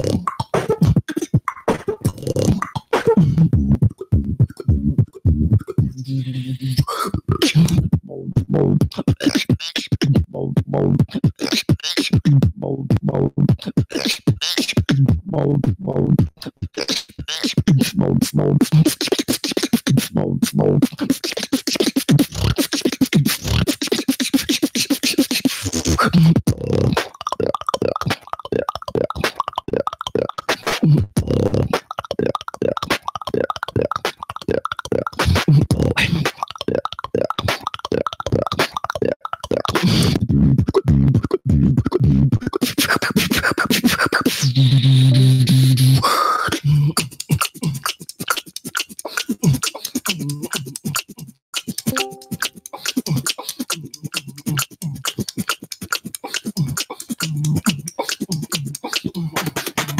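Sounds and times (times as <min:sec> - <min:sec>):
percussive mouth clicks and snares: 0:00.0 - 0:06.0, 0:06.6 - 0:08.0, 0:18.6 - 0:45.0, 0:45.6 - 0:59.9.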